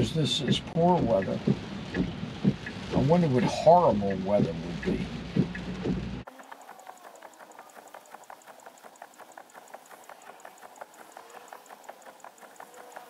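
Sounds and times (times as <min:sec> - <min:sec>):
steady ticking beat: 0:00.0 - 0:13.0.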